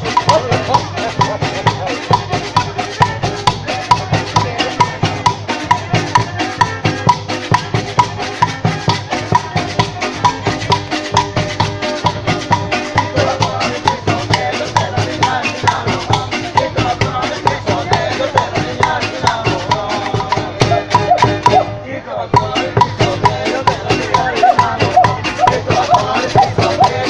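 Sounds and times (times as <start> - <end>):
hand drums beating: 0.0 - 27.0.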